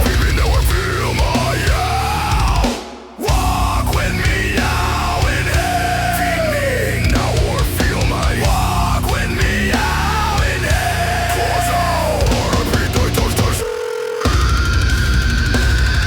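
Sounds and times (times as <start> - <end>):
metal song with distorted guitars: 0.0 - 16.0.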